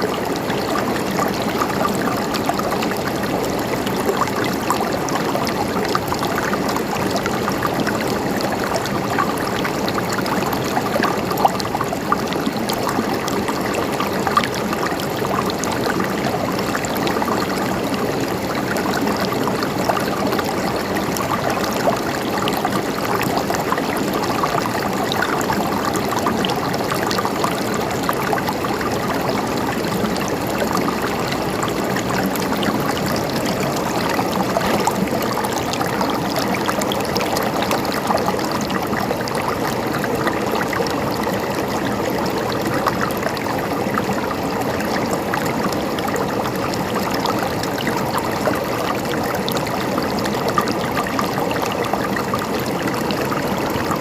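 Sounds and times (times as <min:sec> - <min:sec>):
river water gurgling over stones: 0:00.0 - 0:54.0.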